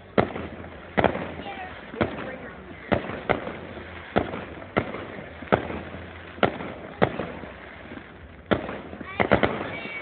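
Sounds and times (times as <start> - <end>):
fireworks shells exploding: 0.0 - 10.0.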